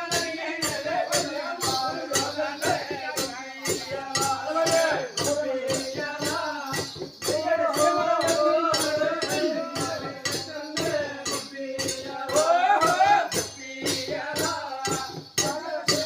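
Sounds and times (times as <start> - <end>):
rattling percussion beat: 0.0 - 16.0.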